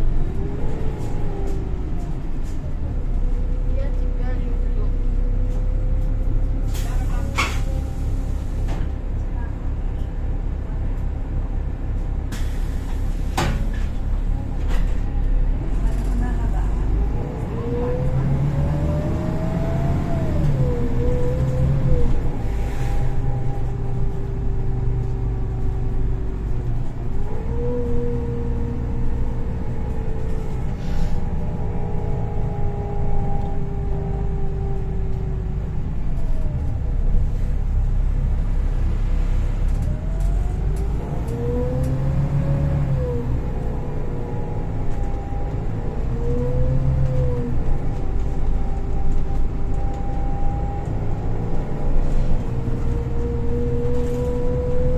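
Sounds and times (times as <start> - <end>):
bus engine rumble: 0.0 - 54.9.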